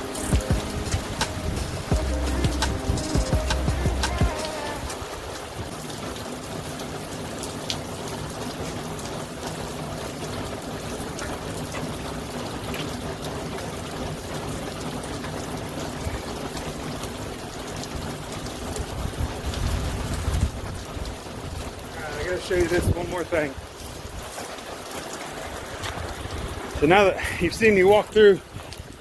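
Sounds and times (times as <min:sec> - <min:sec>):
steady rain: 0:00.0 - 0:29.0
water trickling and running: 0:00.0 - 0:29.0.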